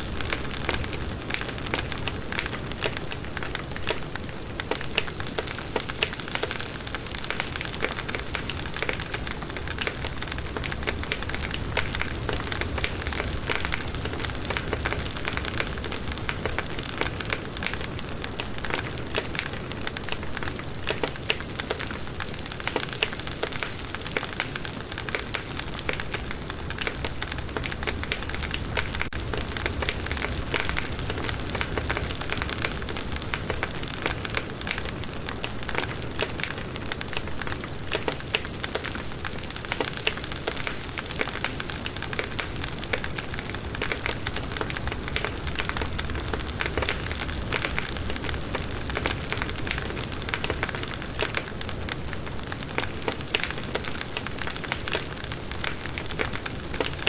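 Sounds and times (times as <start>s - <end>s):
low rumble of flame: 0.0s - 23.0s, 23.6s - 57.0s
campfire crackling and popping: 0.0s - 57.0s.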